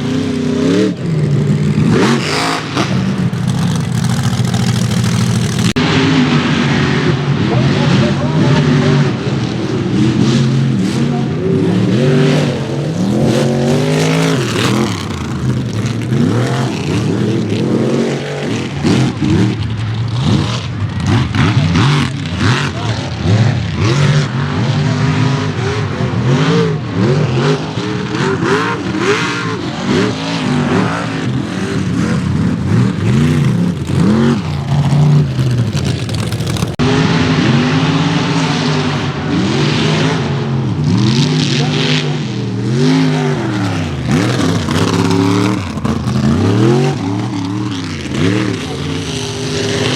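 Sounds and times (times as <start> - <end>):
truck engines revving hard: 0.0 - 49.9.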